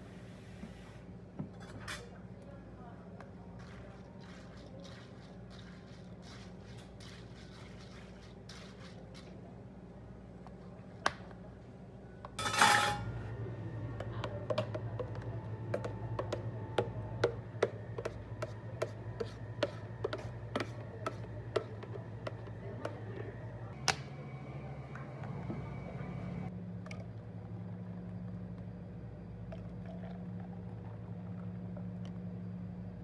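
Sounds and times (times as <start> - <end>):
low steady machine hum: 0.0 - 33.0.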